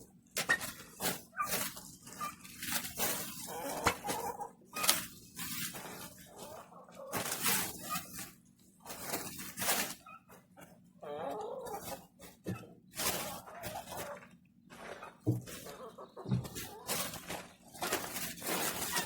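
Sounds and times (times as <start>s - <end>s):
rustling: 0.3s - 10.8s, 11.7s - 19.0s.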